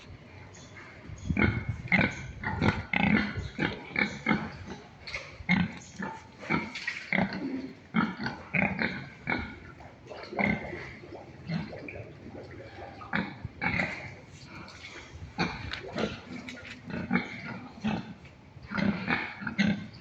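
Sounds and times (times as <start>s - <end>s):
pigs grunting: 0.9s - 20.0s.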